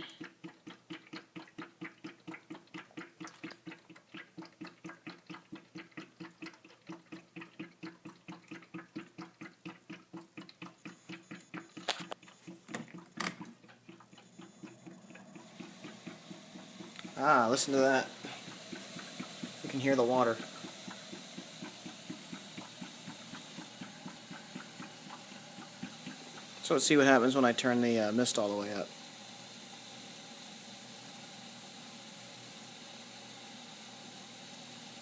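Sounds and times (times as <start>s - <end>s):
humidifier tank glugging: 0.0s - 31.7s.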